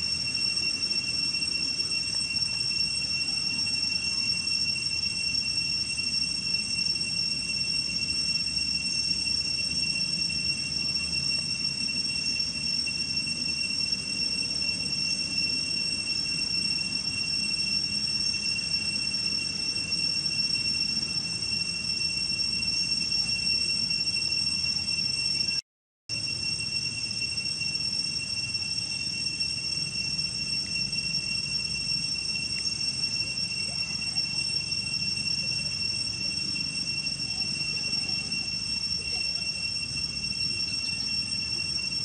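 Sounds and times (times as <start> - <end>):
high-pitched whine: 0.0 - 42.0.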